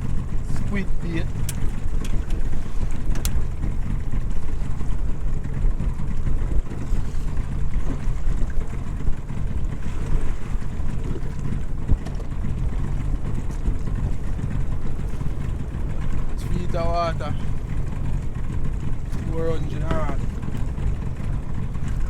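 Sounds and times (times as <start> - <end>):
motorboat engine rumble: 0.0 - 22.0.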